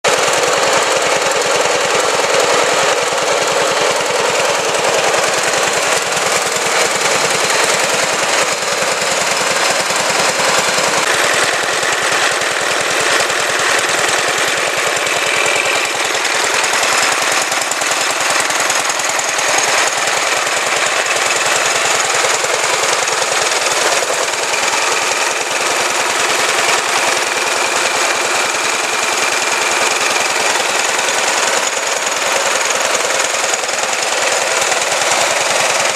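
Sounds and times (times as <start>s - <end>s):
single-cylinder engine knocking: 0.0s - 35.9s.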